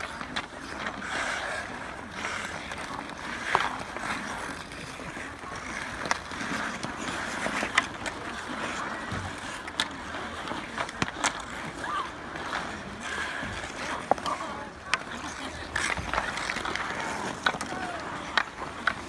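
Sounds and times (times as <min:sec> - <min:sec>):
hockey sticks clacking: 0:00.0 - 0:19.0
skate blades scraping ice: 0:00.0 - 0:19.0.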